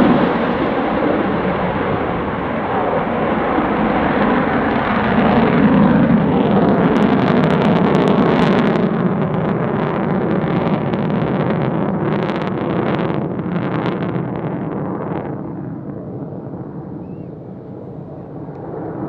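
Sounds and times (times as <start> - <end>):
afterburner crackling: 0.0 - 19.0
jet roar passing overhead: 0.0 - 19.0.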